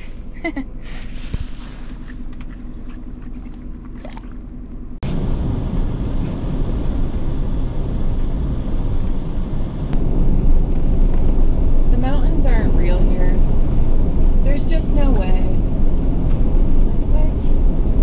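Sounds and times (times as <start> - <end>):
engine and tyre noise: 0.0 - 18.0
low hum inside van: 0.0 - 18.0.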